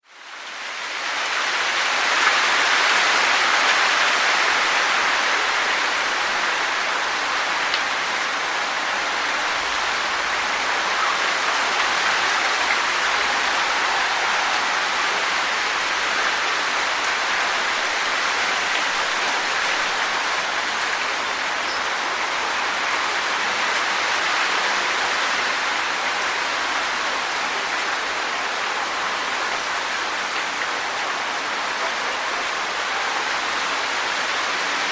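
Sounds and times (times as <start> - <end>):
wind rustling leaves in trees: 0.0 - 34.9.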